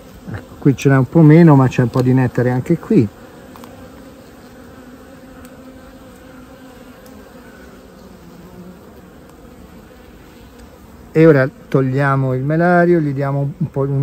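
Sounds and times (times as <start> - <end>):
honeybees humming: 0.0 - 14.0.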